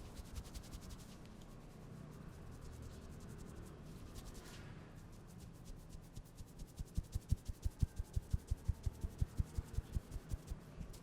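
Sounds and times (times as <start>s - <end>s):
fingers scratching through hair: 0.0s - 11.0s.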